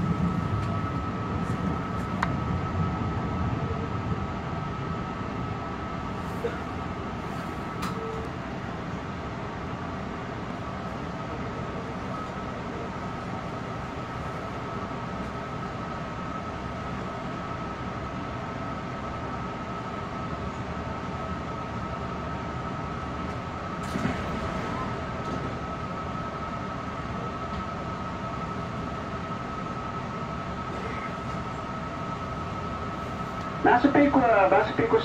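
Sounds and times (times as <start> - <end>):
train equipment hum: 0.0 - 35.0.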